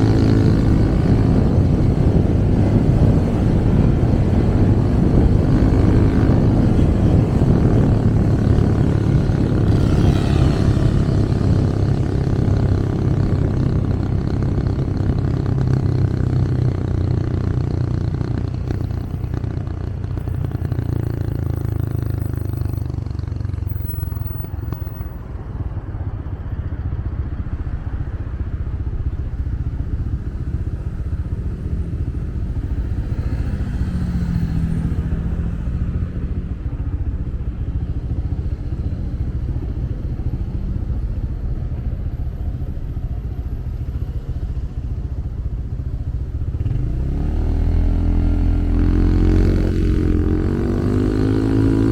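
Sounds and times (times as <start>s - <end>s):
motorcycle engine running: 0.0s - 51.9s
road and wind noise: 0.0s - 51.9s.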